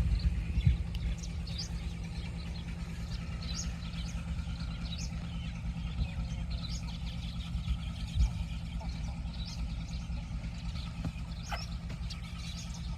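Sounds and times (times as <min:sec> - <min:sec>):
baby chicks peeping: 0:00.0 - 0:12.9
steady low rumble: 0:00.0 - 0:12.9.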